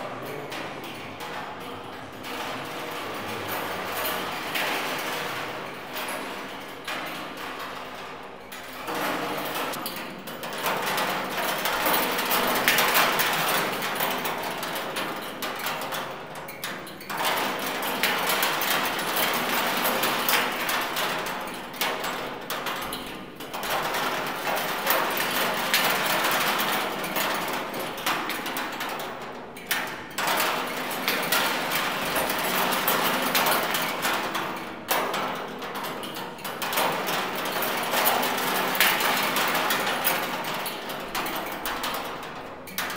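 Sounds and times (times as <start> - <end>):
spoons rattling against metal drum: 0.7 - 42.9.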